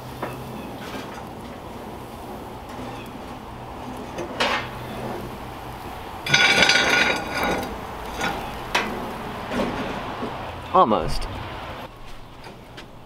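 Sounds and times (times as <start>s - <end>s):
skillet scraping on metal grill: 0.0s - 10.7s.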